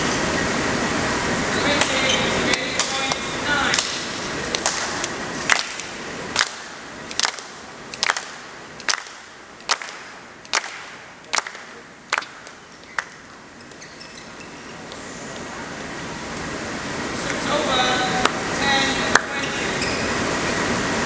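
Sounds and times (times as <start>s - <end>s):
low crowd noise: 0.0s - 21.0s.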